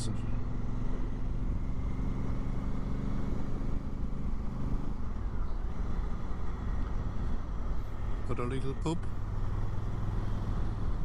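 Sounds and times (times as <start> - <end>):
low wind noise: 0.4 - 11.0.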